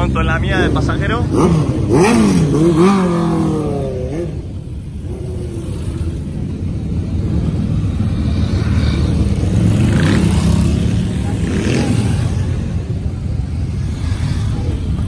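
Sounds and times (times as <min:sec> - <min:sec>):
motorcycle engines rumbling: 0:00.0 - 0:15.0
motorcycle revving: 0:00.0 - 0:15.0.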